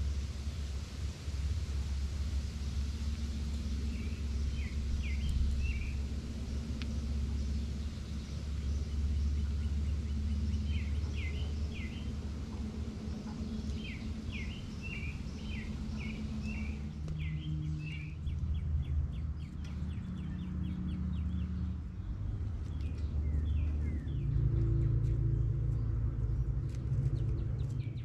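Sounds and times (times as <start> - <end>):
songbirds chirping: 0.0 - 28.0
steady low rumble: 0.0 - 28.0.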